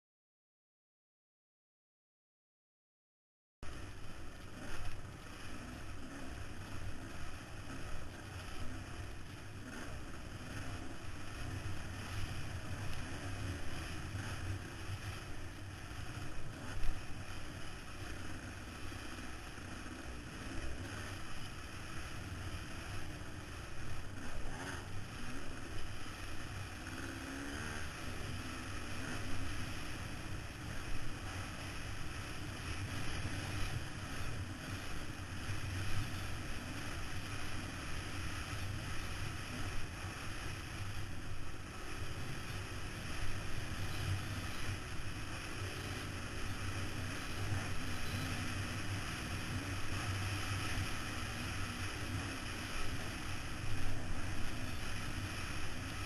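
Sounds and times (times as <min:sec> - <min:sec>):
motorcycle engine racing: 0:03.7 - 0:56.0.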